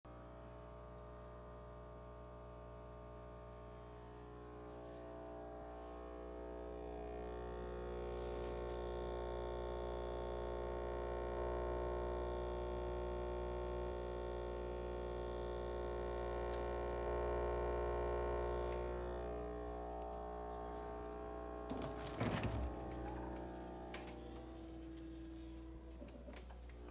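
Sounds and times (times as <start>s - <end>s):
refrigerator humming: 2.6s - 26.9s.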